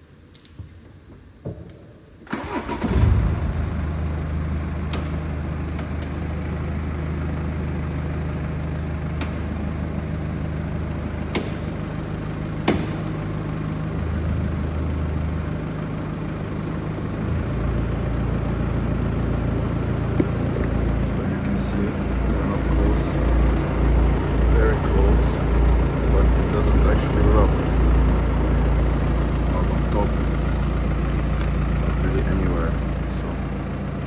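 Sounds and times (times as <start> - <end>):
diesel engine idling: 2.3 - 34.0.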